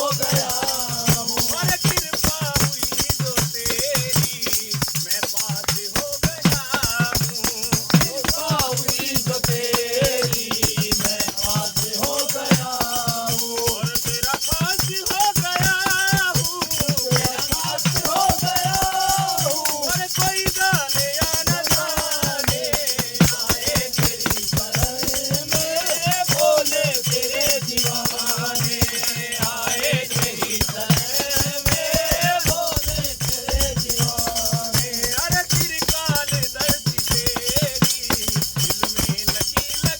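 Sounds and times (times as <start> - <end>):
men singing together: 0.0 - 39.9
rattling hand percussion: 0.0 - 39.9.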